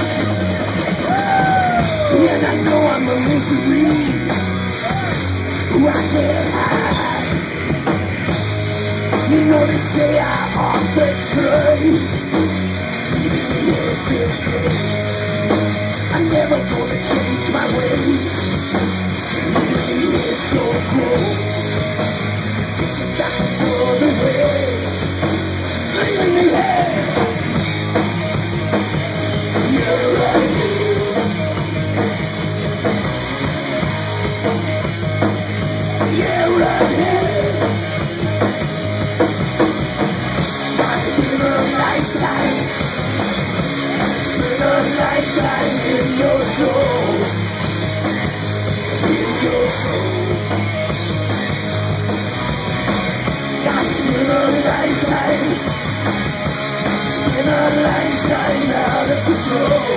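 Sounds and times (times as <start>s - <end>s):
live rock band playing: 0.0s - 59.9s
wavering lead guitar line: 0.0s - 59.9s.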